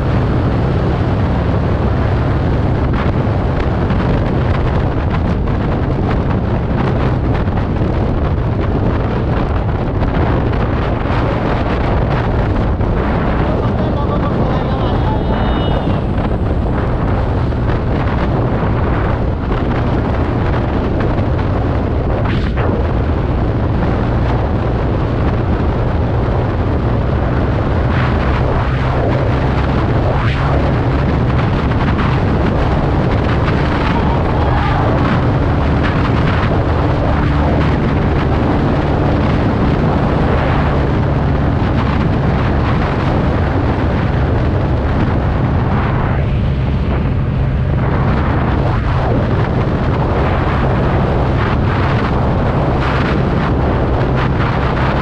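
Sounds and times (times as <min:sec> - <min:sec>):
scooter engine running fast: 0:00.0 - 0:55.0
wind buffeting microphone: 0:00.0 - 0:55.0.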